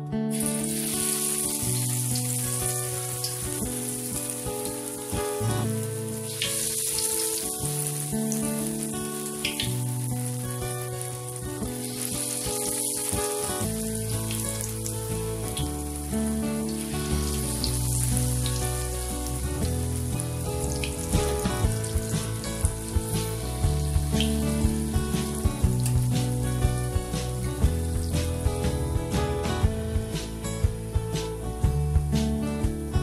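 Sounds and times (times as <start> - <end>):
acoustic guitar music: 0.0 - 33.0
batter sizzling in hot oil: 0.3 - 32.2.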